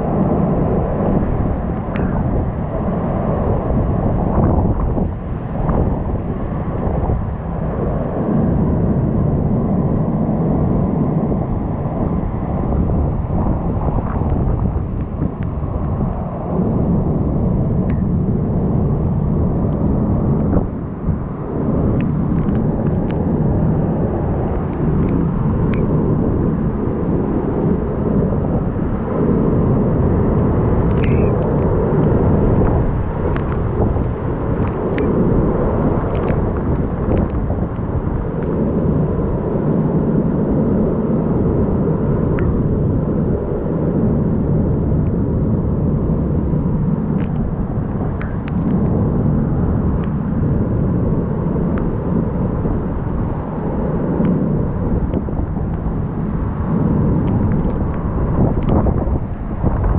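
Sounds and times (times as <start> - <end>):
strong wind: 0.0 - 59.9.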